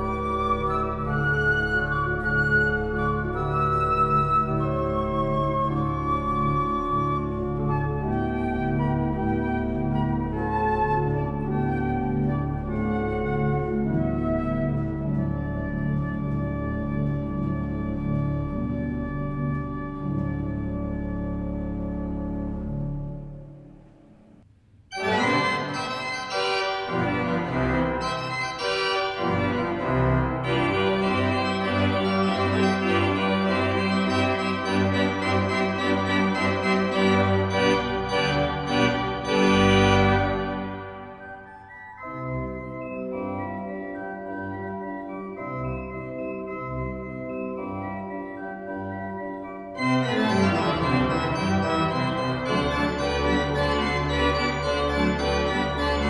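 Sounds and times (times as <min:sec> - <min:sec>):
pipe organ playing chords: 0:00.0 - 0:24.1, 0:24.9 - 0:56.0.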